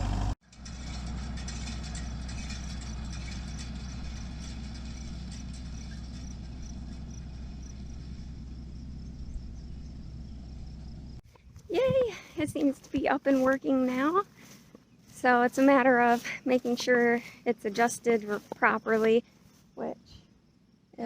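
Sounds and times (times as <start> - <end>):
tractor engine idling: 0.0 - 19.7.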